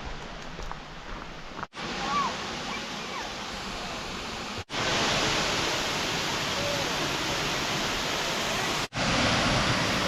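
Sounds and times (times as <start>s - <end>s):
waterfall rushing: 1.7s - 10.0s.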